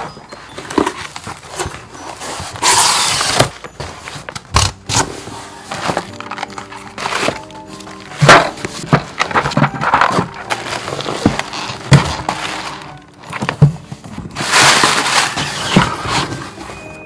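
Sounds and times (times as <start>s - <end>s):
cardboard boxes scraping and knocking: 0.0s - 17.0s
plastic packaging crinkling: 0.0s - 17.0s.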